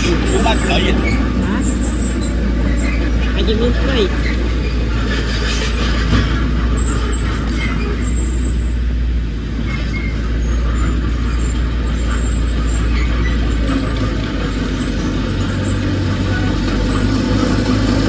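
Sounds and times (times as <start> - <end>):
deep diesel engine drone: 0.0 - 18.0.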